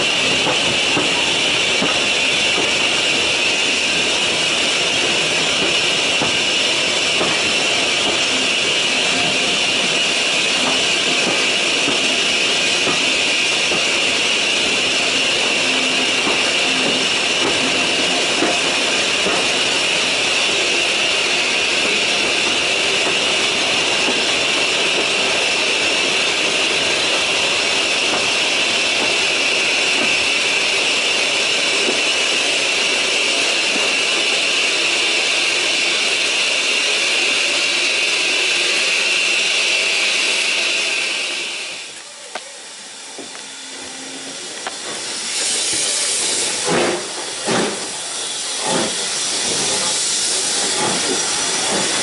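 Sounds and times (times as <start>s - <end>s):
steam locomotive hissing: 0.0s - 52.0s
short bursts of steam: 0.8s - 52.0s.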